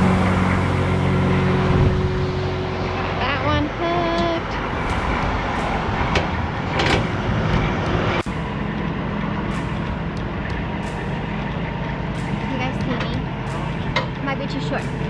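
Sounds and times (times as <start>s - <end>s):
truck engine running: 0.0s - 15.0s
wind and road noise: 0.0s - 15.0s.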